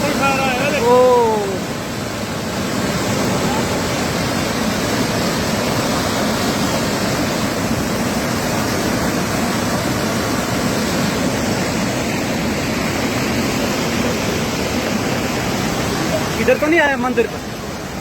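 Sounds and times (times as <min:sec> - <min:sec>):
floodwater rushing: 0:00.0 - 0:18.0.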